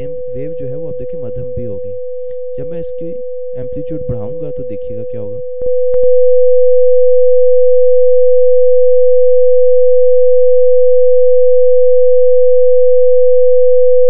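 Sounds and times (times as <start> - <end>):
loud sine tone: 0.0 - 14.0.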